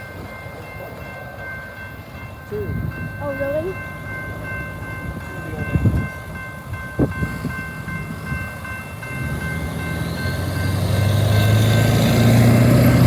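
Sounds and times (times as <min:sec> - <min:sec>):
level crossing bell: 0:00.0 - 0:13.0
locomotive engine drone: 0:00.0 - 0:13.0
rolling train noise: 0:00.0 - 0:13.0
wind: 0:00.0 - 0:13.0.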